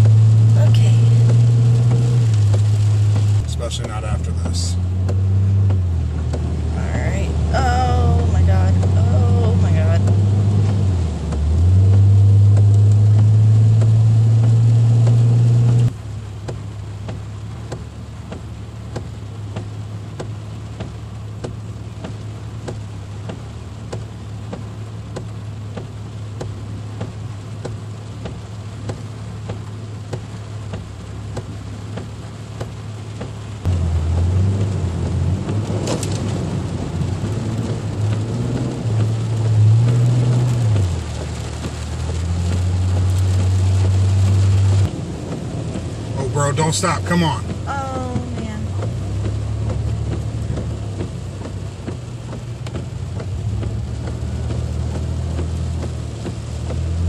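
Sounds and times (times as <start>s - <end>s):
car engine and road drone: 0.0s - 57.0s
rain and road hiss: 0.0s - 57.0s.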